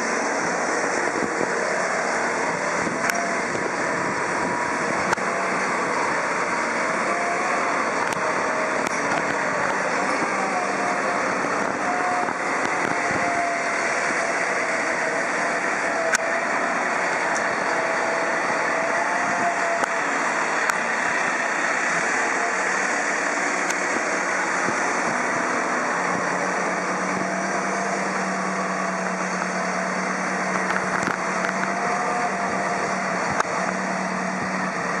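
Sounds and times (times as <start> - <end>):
diesel engine running: 0.0 - 35.0
faint wavering whine: 0.0 - 35.0
steady low hum: 0.0 - 35.0.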